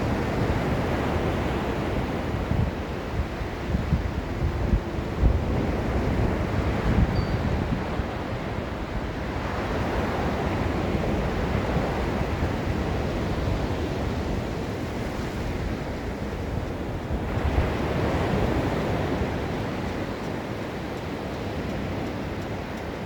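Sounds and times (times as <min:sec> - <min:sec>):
surf washing onto beach: 0:00.0 - 0:23.0
wind rumble on microphone: 0:00.0 - 0:23.0.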